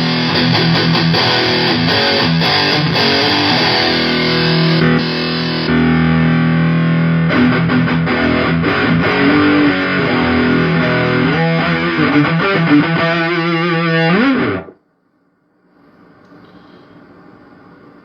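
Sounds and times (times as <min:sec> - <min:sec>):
distorted electric guitar: 0:00.0 - 0:14.8.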